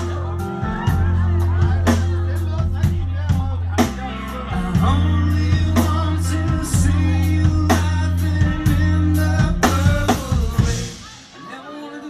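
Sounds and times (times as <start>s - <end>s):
low bass notes: 0.0s - 11.1s
drum and cymbal hits: 0.0s - 11.5s
live rock band playing: 0.0s - 12.0s.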